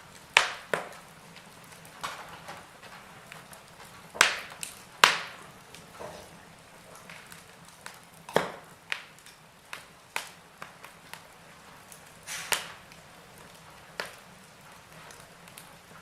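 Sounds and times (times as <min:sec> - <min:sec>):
faint steady hiss: 0:00.0 - 0:16.0
logs crackling and popping: 0:00.0 - 0:16.0.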